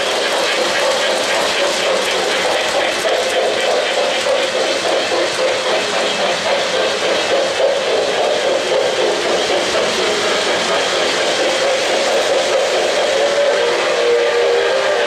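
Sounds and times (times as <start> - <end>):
model trains rumbling and whirring: 0.0 - 15.0.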